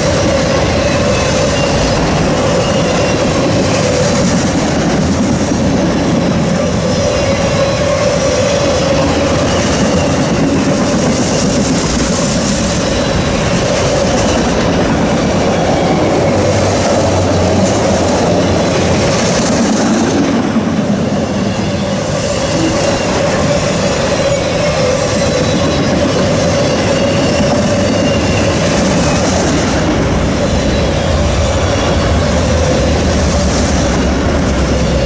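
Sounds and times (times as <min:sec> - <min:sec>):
freight cars rumbling on rails: 0:00.0 - 0:35.0.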